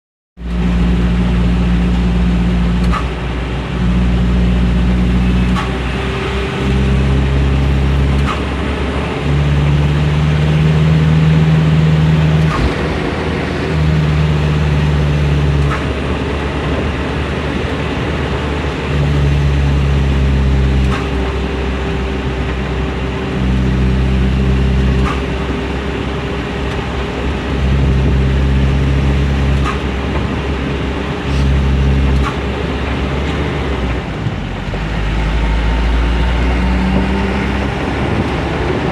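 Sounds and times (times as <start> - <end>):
truck engine running: 0.4 - 38.9.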